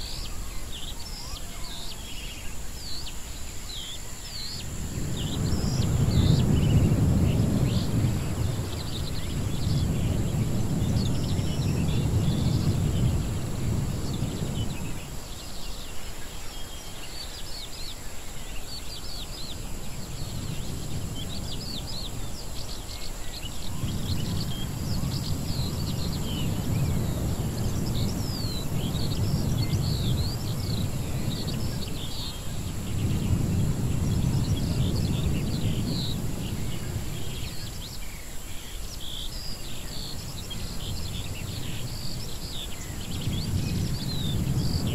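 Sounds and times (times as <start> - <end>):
birds chirping: 0.0 - 44.9
steady high hiss: 0.0 - 44.9.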